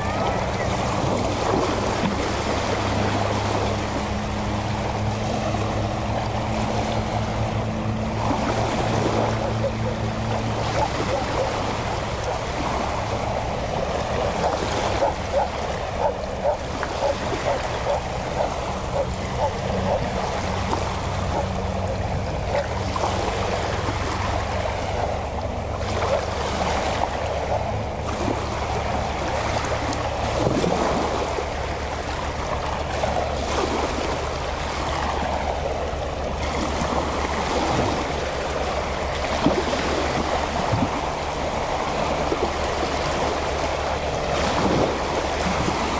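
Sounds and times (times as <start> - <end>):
boat motor humming: 0.0 - 45.9
small waves lapping at shore: 0.0 - 45.9.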